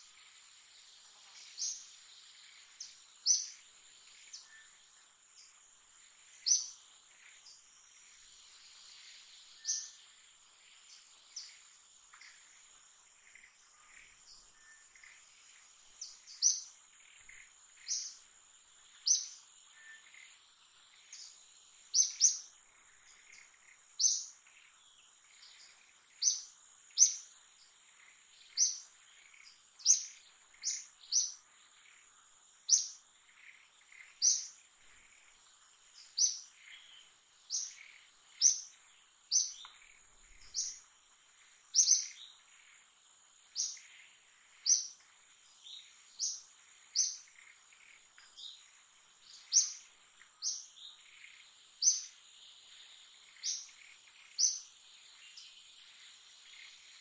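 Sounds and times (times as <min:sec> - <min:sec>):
bird chirping: 0:00.0 - 0:57.0
insect drone: 0:00.0 - 0:57.0.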